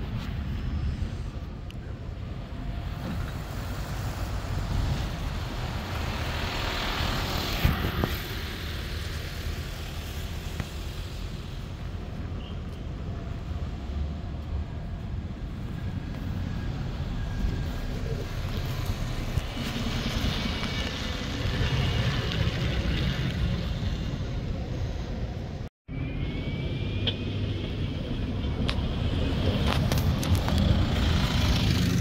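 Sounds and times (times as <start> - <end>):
bus engine rumble: 0.0 - 25.7, 26.7 - 32.0
tyre and road noise: 0.0 - 32.0.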